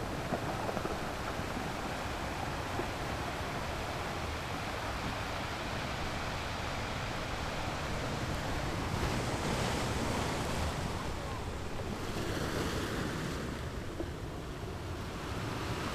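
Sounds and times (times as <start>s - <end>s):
sea water rushing: 0.0s - 15.9s
wind: 0.0s - 15.9s.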